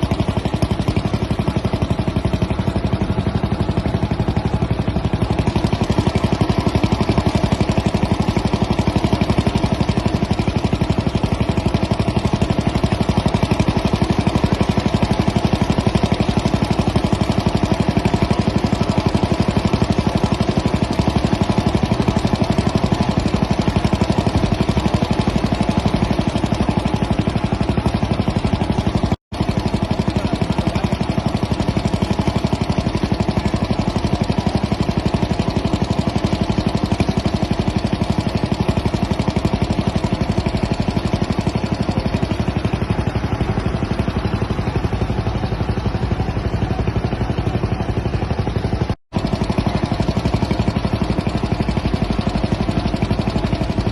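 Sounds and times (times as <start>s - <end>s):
engine running: 0.0s - 53.9s.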